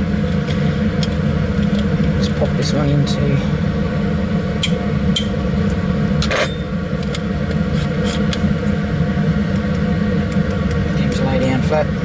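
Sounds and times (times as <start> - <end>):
cabinet blower droning: 0.0 - 12.0.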